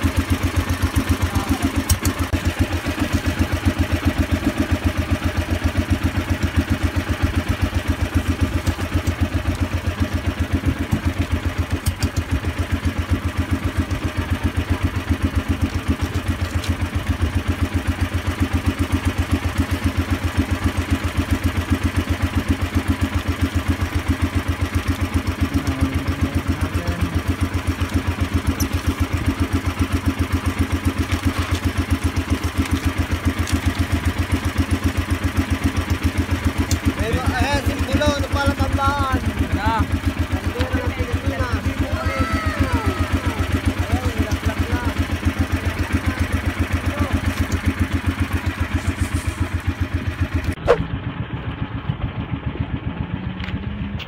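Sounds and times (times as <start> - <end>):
boat engine running steadily: 0.0 - 54.0.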